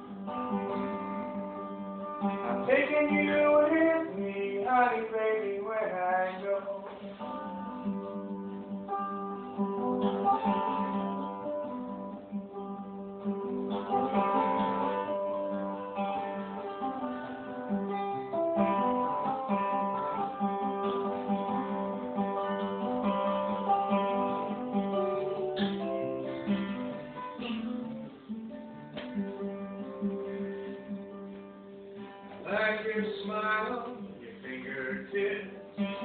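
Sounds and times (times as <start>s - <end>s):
acoustic guitar: 0.0s - 36.0s.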